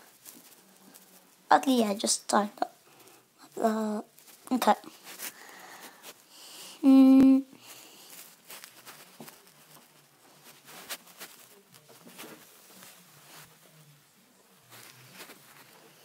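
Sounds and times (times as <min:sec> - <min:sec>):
rustles: 0:00.0 - 0:16.0.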